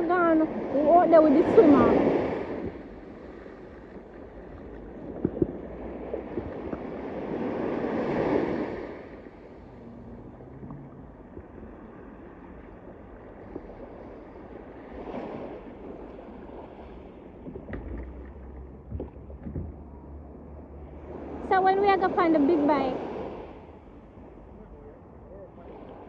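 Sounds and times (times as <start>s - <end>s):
waves washing onto sandy beach: 0.0s - 26.0s.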